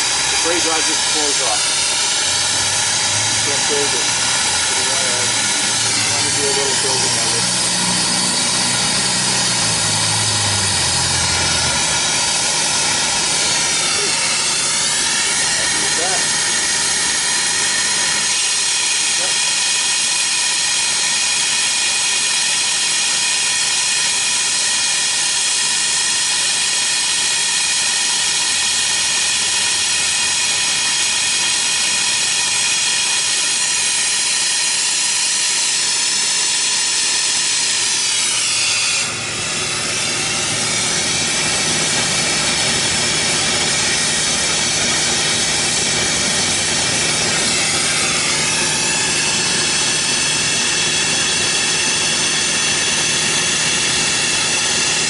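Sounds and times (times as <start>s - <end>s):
torch flame hissing: 0.0s - 20.4s, 30.4s - 55.0s.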